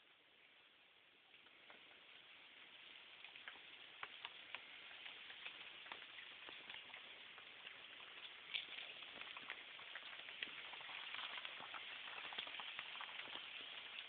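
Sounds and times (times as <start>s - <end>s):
rain hissing: 0.0s - 14.0s
raindrops tapping: 1.3s - 14.0s.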